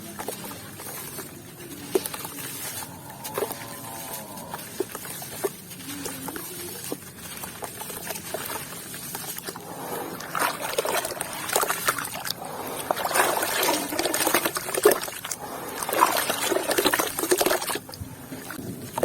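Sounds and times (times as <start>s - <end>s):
wet watery sounds: 0.0s - 19.0s.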